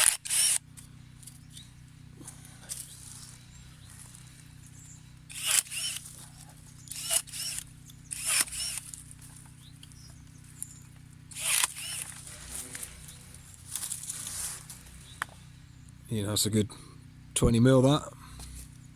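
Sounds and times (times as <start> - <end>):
secateurs motor whine: 0.0 - 17.4
low steady hum: 0.0 - 18.9.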